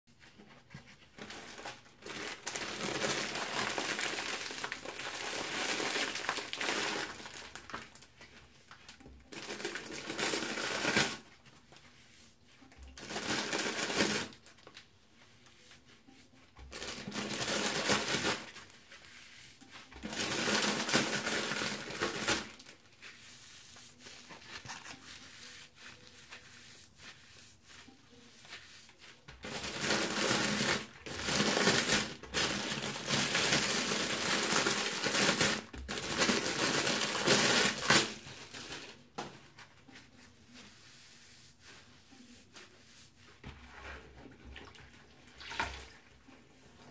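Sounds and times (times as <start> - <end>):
soapy sponge squelching: 0.1 - 46.9.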